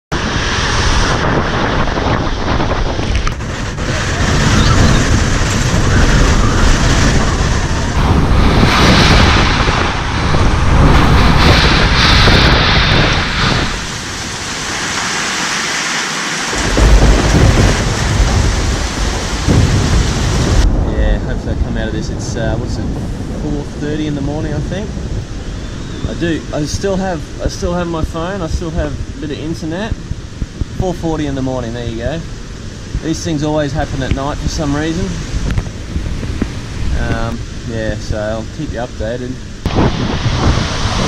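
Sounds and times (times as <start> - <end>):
wind and rain battering house: 0.1 - 41.0.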